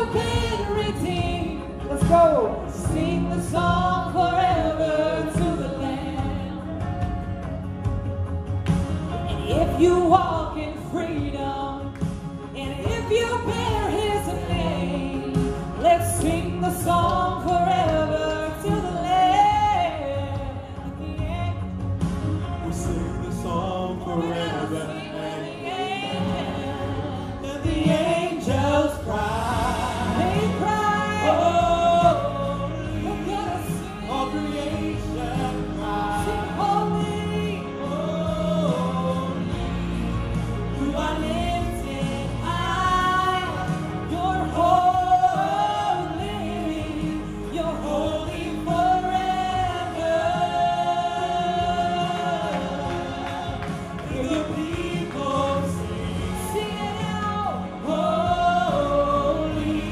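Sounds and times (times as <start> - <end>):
people singing worship song: 0.0 - 59.9.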